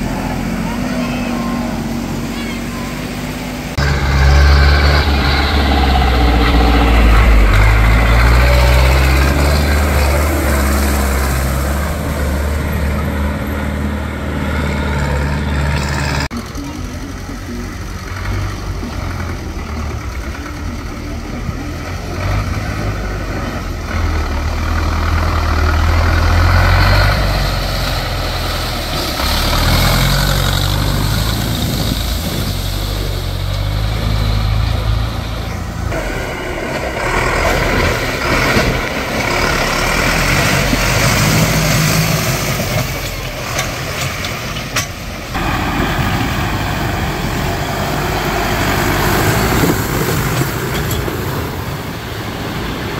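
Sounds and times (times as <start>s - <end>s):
tractor engines revving: 0.0s - 52.9s
tractor ploughing through mud: 0.0s - 52.9s.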